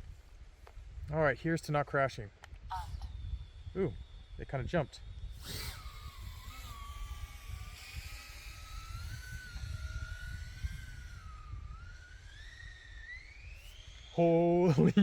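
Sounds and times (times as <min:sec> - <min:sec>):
drone motors whining: 0:02.4 - 0:15.0.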